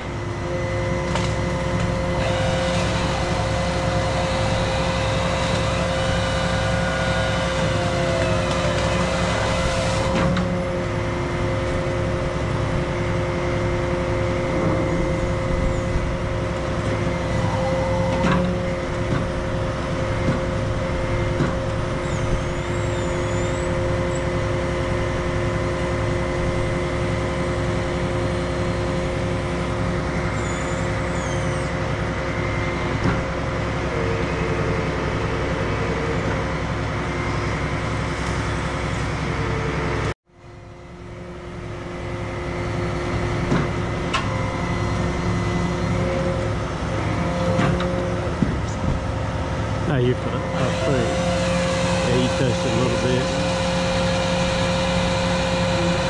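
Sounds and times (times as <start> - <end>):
crane engine droning with whine: 0.0 - 56.0.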